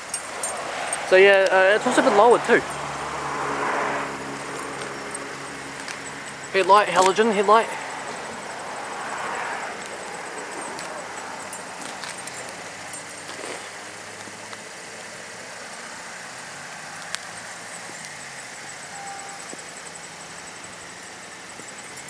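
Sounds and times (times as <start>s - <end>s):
car engine idling quietly: 0.0s - 22.0s
steady outdoor hiss: 0.0s - 22.0s.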